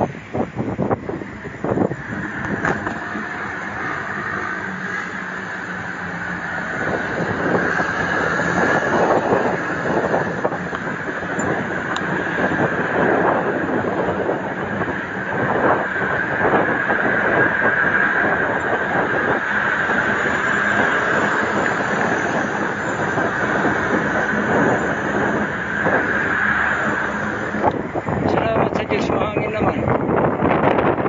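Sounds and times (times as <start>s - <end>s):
bicycle rattling: 0.0s - 31.0s
bicycle tyre and road noise: 0.0s - 31.0s
wind rushing over microphone: 0.0s - 31.0s.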